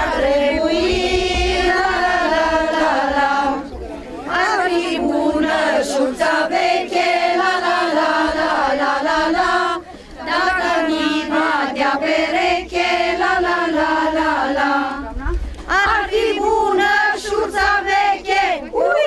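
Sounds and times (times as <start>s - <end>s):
women singing folk song: 0.0s - 19.0s.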